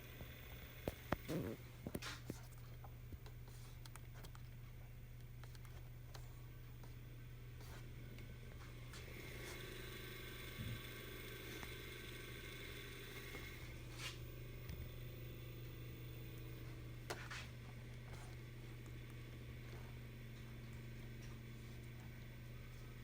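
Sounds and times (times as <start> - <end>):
electric motor low hum: 0.0 - 23.0.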